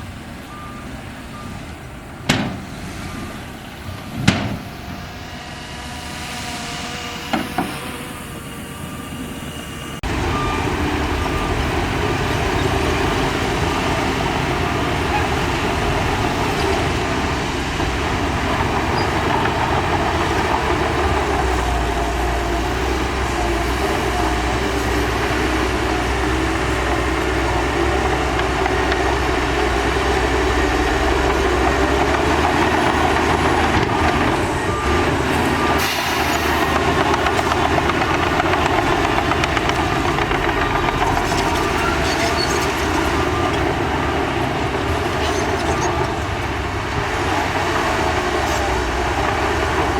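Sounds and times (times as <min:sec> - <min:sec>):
heavy diesel machinery rumbling: 0:00.0 - 0:49.9.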